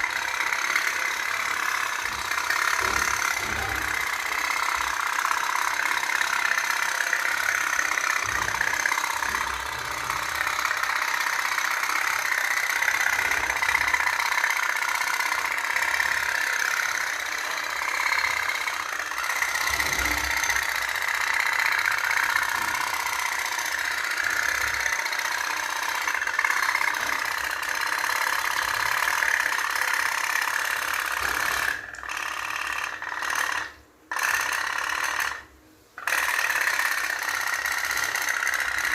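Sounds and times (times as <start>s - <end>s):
toy boat engine putting: 0.0s - 38.9s.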